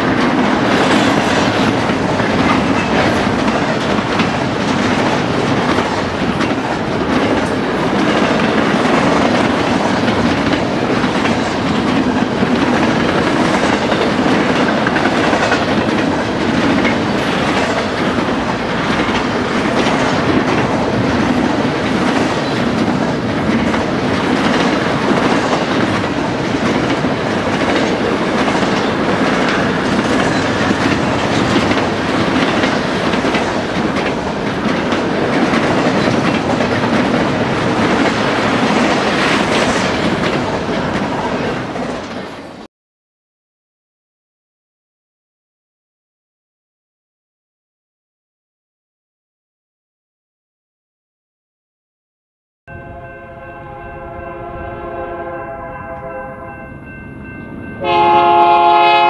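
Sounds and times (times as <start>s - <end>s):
steel wheels rumbling on rail: 0.0s - 42.7s, 53.6s - 59.0s.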